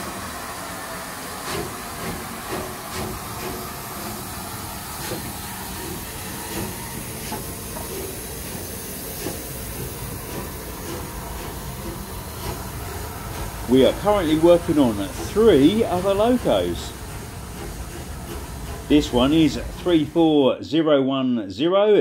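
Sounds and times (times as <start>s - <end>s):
soft locomotive beats: 0.0s - 20.5s
steam hissing: 0.0s - 20.6s.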